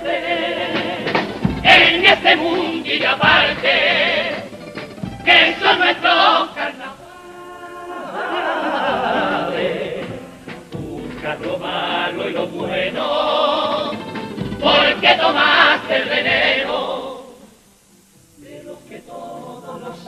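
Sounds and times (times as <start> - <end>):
male chorus singing in harmony: 0.0 - 17.6, 18.4 - 20.0
guitar accompaniment: 0.0 - 20.0.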